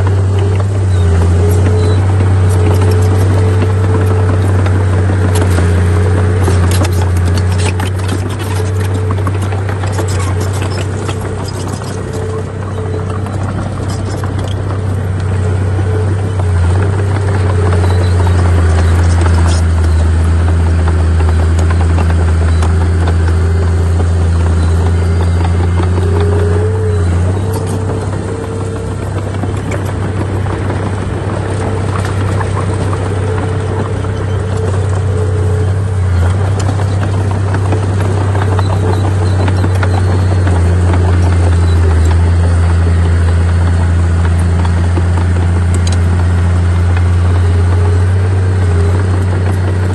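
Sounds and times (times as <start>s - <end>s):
diesel machinery engine drone: 0.0s - 49.9s
rattle of small clicks: 0.0s - 49.9s.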